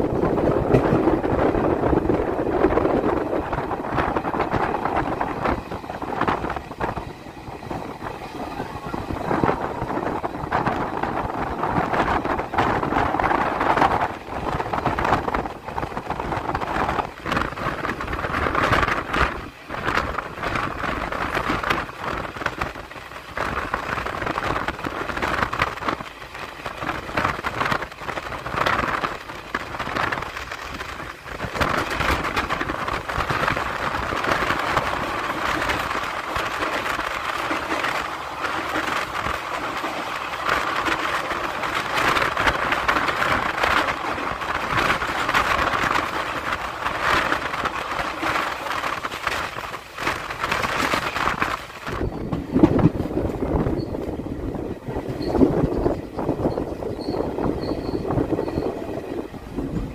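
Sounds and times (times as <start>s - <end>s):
wheel and rail noise: 0.0s - 59.9s
wind on microphone: 0.0s - 59.9s.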